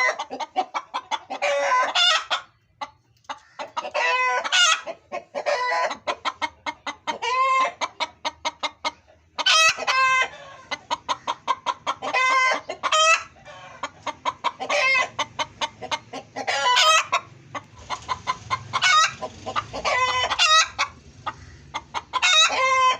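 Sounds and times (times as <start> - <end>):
hen cackling: 0.0 - 2.6, 3.3 - 22.9.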